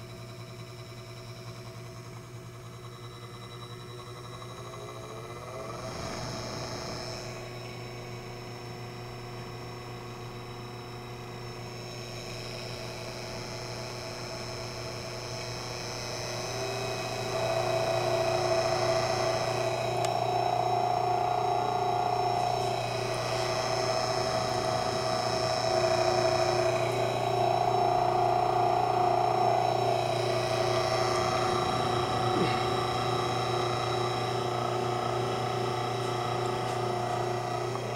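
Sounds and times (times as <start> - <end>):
electric mixer motor whining: 1.4 - 37.9.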